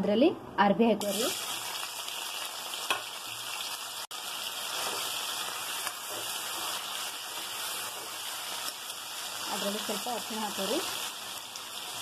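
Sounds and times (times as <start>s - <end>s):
food sizzling in hot oil: 1.0s - 12.0s.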